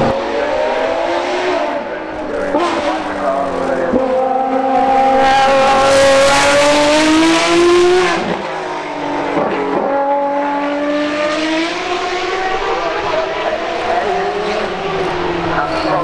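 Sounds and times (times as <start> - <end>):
car engine revving past: 0.0 - 16.0.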